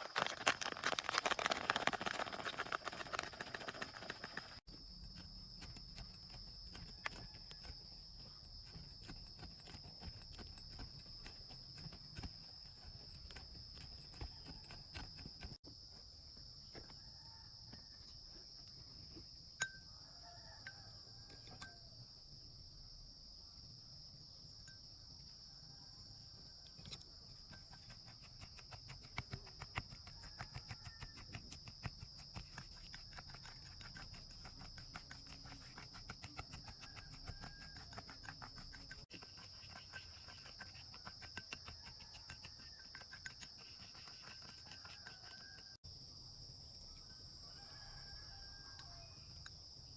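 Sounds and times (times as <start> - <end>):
insects trilling: 0.0 - 49.9.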